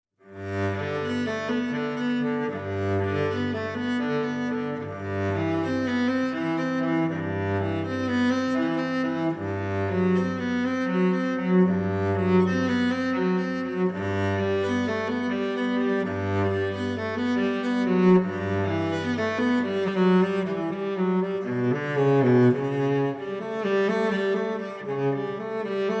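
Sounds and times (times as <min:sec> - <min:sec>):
bowed low strings music: 0:00.3 - 0:26.0.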